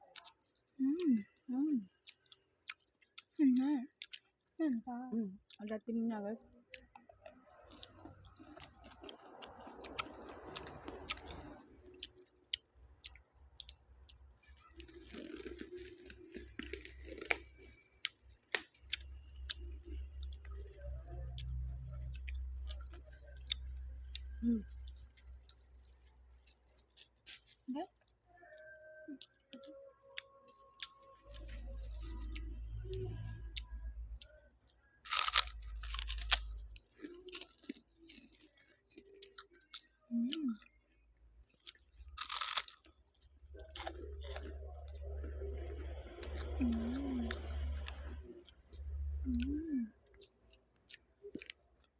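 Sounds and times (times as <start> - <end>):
chewing: 0.0 - 51.9
low steady hum: 4.6 - 50.8.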